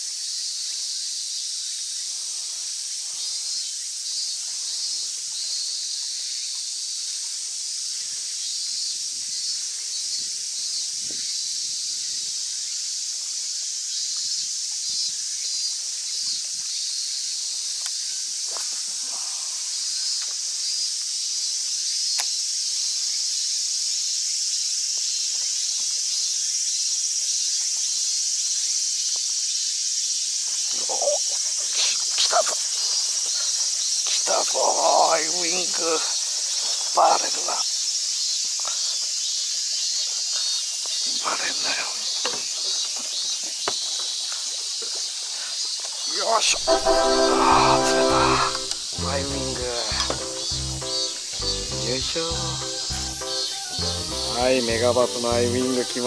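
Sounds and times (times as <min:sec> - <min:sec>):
shrill insect chorus: 0:00.0 - 0:56.0.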